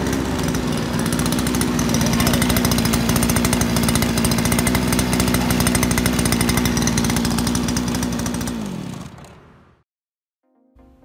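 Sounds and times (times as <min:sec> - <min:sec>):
brush cutter engine buzzing: 0:00.0 - 0:09.6.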